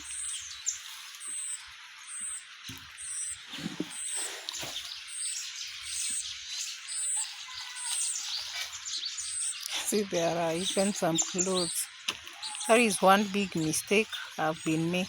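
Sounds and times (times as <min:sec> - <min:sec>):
hissing rustling background: 0:00.0 - 0:15.0.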